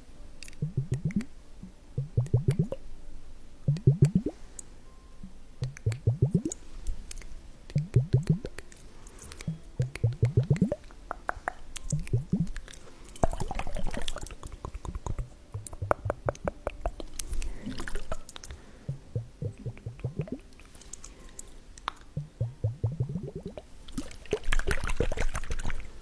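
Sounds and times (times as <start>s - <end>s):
liquid gurgling and dripping: 0.4s - 1.3s, 2.0s - 2.8s, 3.7s - 4.4s, 5.6s - 8.6s, 9.3s - 21.2s, 21.8s - 26.0s.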